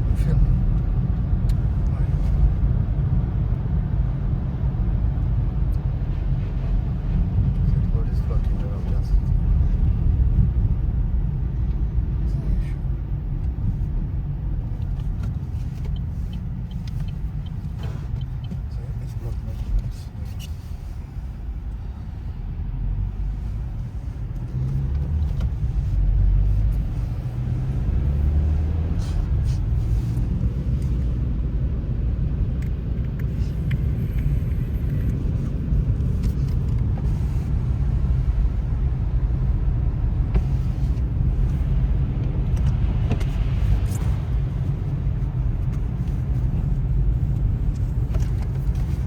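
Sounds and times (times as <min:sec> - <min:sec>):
car driving rumble: 0:00.0 - 0:49.0.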